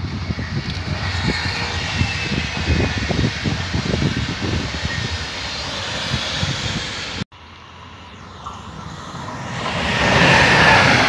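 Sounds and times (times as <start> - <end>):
train wheels rumbling on rails: 0.0 - 7.2, 8.1 - 11.0.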